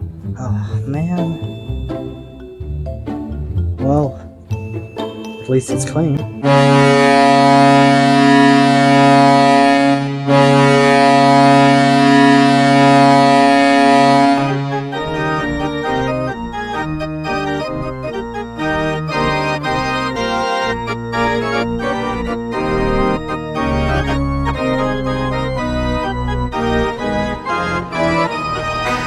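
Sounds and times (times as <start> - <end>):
electric organ music: 0.9 - 29.0.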